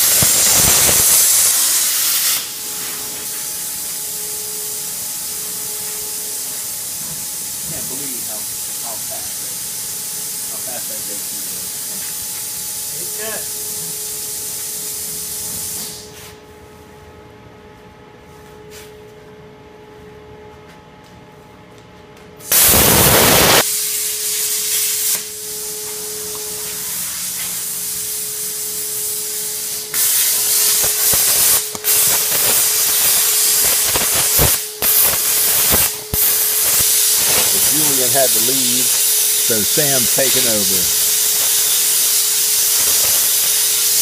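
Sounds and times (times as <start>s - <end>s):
cutting torch hissing: 0.0s - 4.2s, 4.8s - 16.1s, 22.4s - 44.0s.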